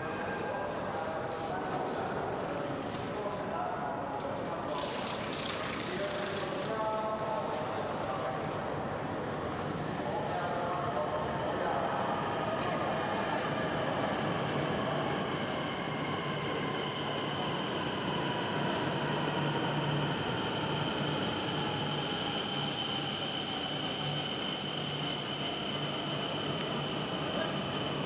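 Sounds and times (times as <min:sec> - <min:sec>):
high train whine: 0:00.0 - 0:28.0
train running past: 0:00.0 - 0:28.0.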